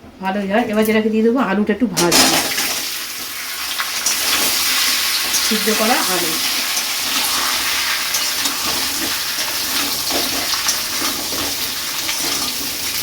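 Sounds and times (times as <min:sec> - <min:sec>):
potatoes frying in hot oil: 0:02.3 - 0:13.0.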